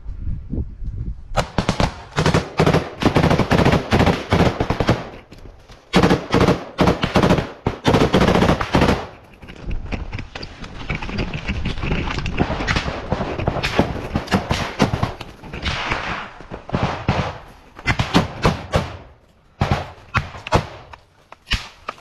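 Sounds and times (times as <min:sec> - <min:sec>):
rifle shots and bursts: 0:01.4 - 0:09.5, 0:12.1 - 0:21.9.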